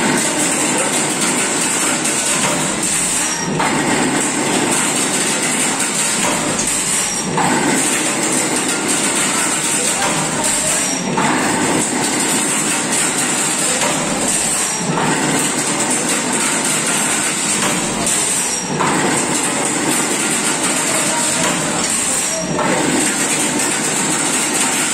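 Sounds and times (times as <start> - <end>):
fence machine mechanical clatter: 0.0 - 24.9.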